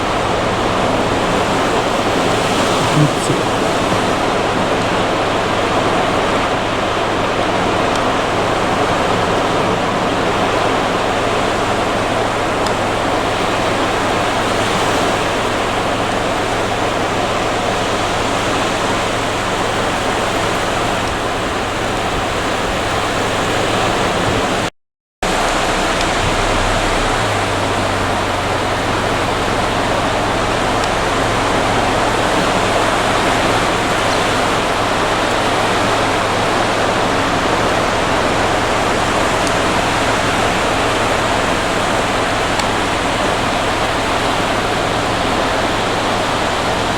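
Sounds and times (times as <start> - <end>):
sea surf on beach: 0.0 - 46.9.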